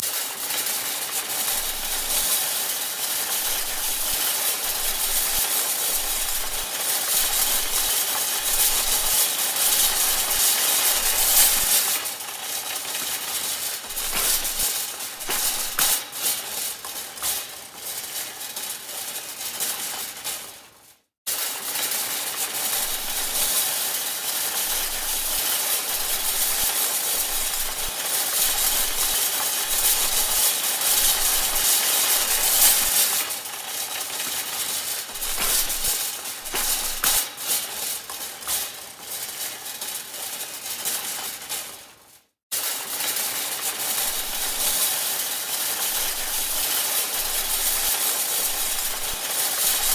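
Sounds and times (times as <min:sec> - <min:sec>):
shopping cart rattling: 0:00.0 - 0:49.9.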